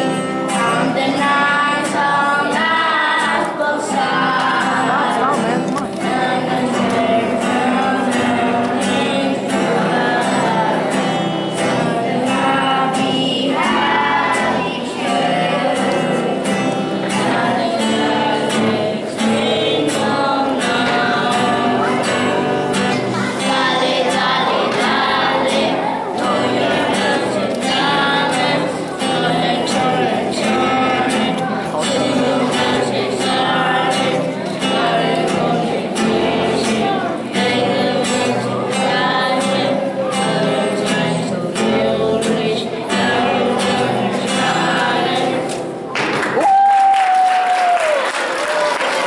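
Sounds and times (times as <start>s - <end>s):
children's choir singing: 0.0s - 46.4s, 47.4s - 49.0s
strummed acoustic guitar: 0.0s - 46.4s.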